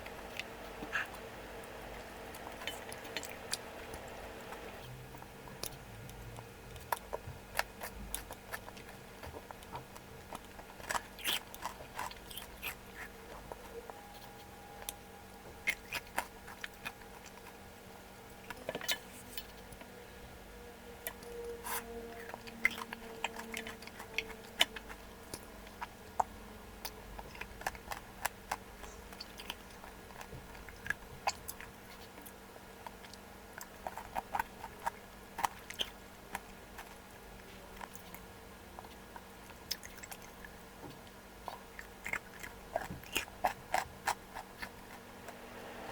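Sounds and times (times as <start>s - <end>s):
person chewing: 0.0s - 17.6s, 21.0s - 45.0s
faint steady hum: 0.0s - 45.9s.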